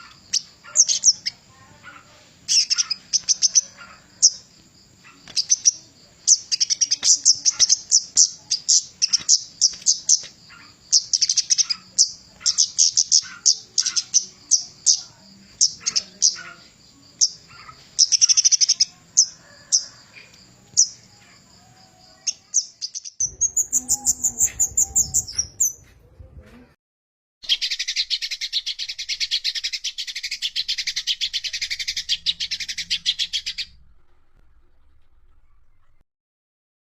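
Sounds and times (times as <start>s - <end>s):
bird calling: 0.0s - 25.8s, 27.4s - 36.0s.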